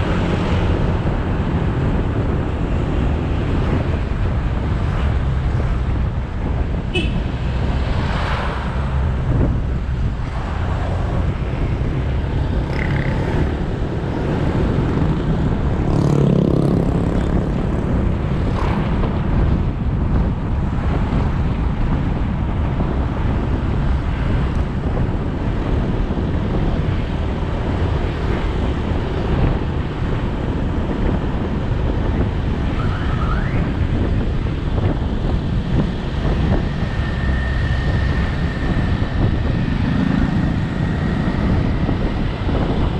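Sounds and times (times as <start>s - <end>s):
traffic noise: 0.0s - 42.9s
wind on microphone: 0.0s - 42.9s.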